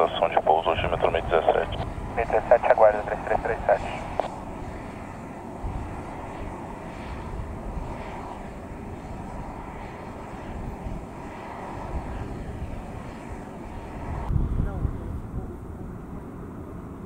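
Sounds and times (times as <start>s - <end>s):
distant jet engines running: 0.0s - 17.0s.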